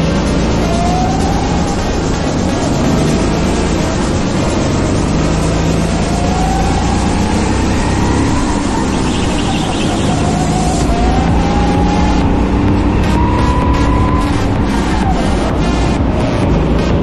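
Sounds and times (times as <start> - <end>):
go-kart engine running hard: 0.0 - 17.0.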